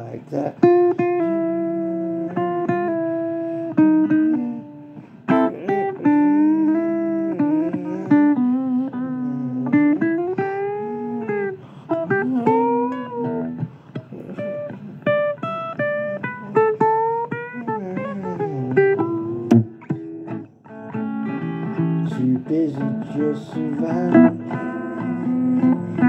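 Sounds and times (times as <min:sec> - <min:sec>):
blues guitar bending notes: 0:00.0 - 0:26.0.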